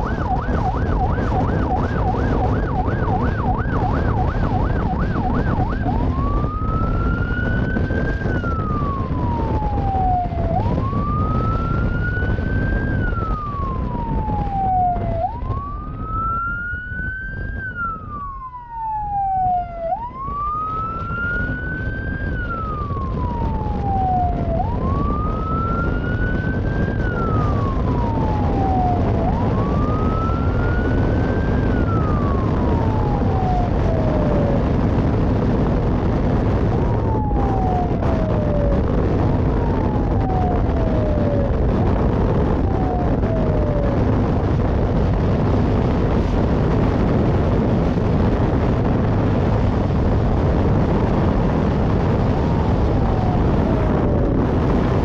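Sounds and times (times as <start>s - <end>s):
faint second siren: 0.0s - 55.0s
police siren yelp and wail: 0.0s - 55.0s
wind and engine rumble: 0.0s - 55.0s.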